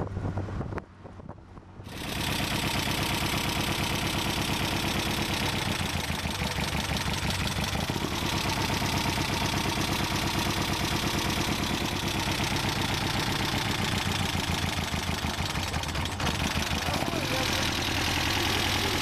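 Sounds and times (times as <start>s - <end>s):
trike engine idling: 1.8s - 19.0s.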